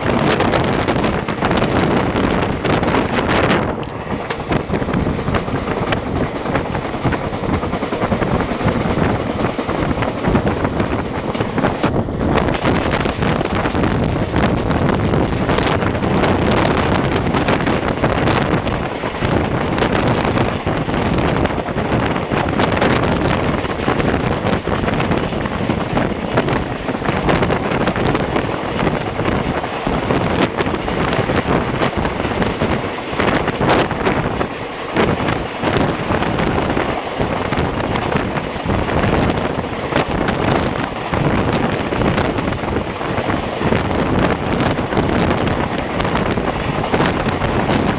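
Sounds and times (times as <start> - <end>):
train running on track: 0.0 - 47.9
wind buffeting microphone: 0.0 - 47.9.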